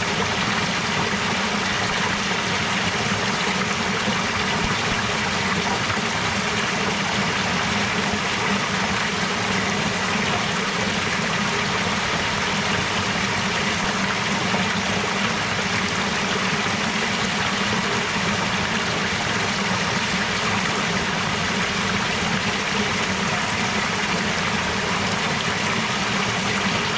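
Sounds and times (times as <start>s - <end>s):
stream water rushing: 0.0s - 26.9s.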